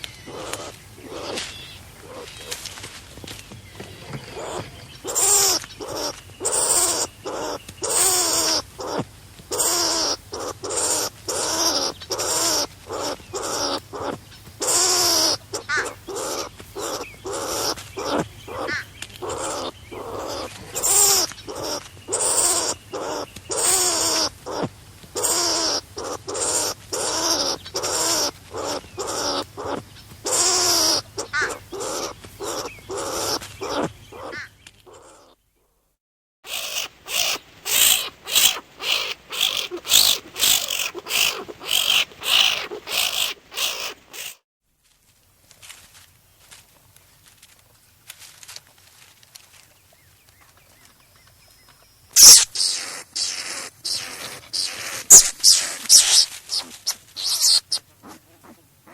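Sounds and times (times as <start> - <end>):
skunk squealing calls: 0.0 - 2.6, 4.3 - 35.4, 36.5 - 44.4, 52.1 - 58.9.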